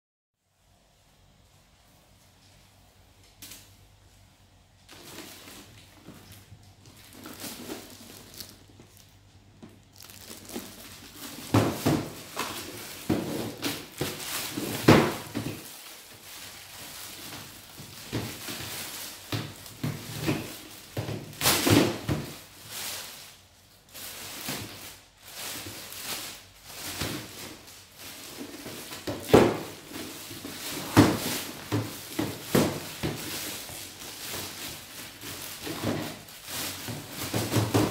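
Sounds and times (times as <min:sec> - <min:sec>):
plastic wrapping crinkling: 0:04.6 - 0:37.9.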